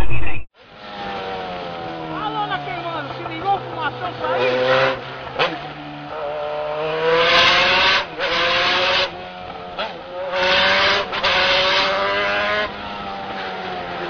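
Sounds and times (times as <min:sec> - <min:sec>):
motorcycle engine accelerating: 0:00.6 - 0:14.0.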